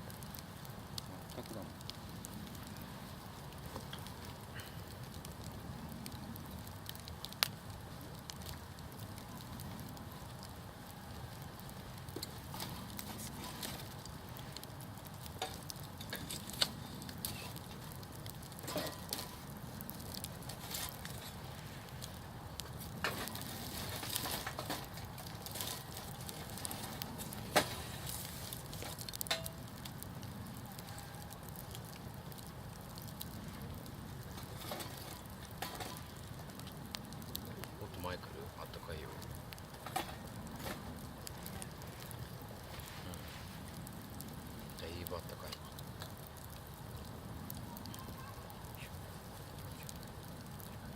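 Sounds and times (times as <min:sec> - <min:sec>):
campfire flame rush: 0:00.0 - 0:50.9
wood crackling and popping: 0:00.0 - 0:50.9.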